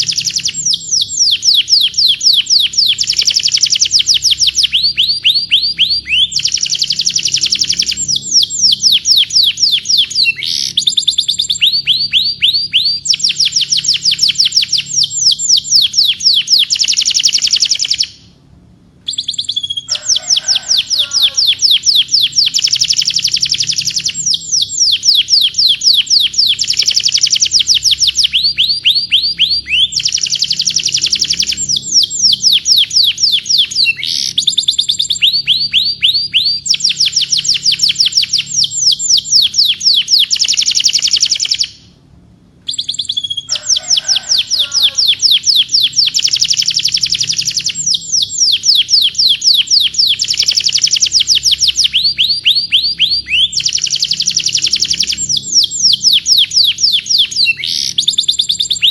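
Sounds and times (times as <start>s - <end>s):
canary singing trills: 0.0s - 18.4s, 19.0s - 42.0s, 42.6s - 58.9s.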